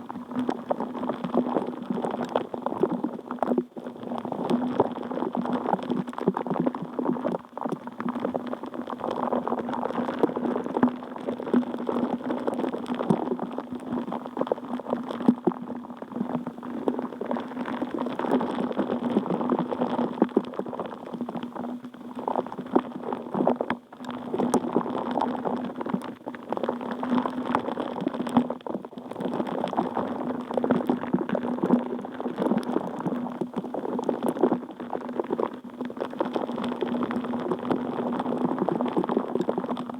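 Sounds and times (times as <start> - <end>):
water bubbling with tiny pops: 0.0 - 39.9.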